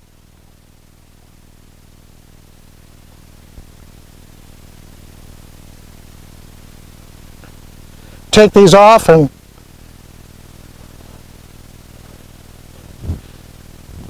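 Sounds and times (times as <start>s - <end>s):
low steady hum and hiss: 0.0s - 14.0s.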